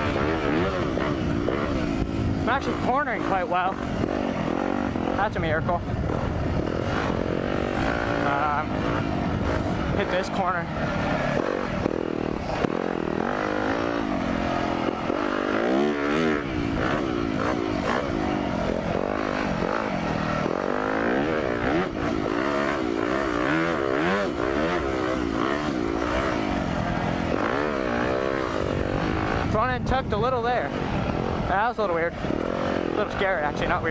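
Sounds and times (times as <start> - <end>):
motorbike engine revving: 0.0 - 33.9.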